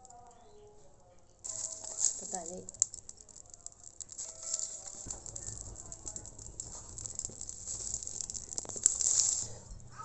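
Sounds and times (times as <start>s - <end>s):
straw fire crackling: 1.3s - 10.0s.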